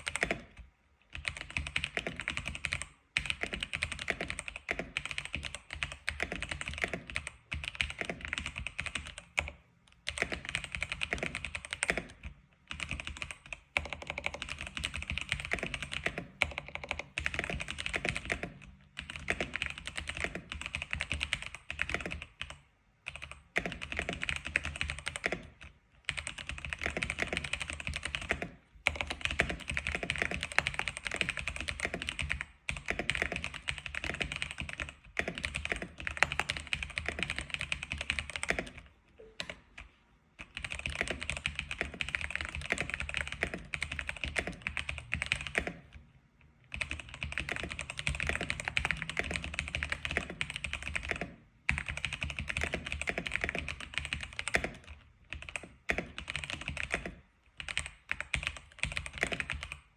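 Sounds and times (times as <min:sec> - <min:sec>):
typing on a keyboard: 0:00.0 - 0:46.0, 0:46.7 - 0:59.9.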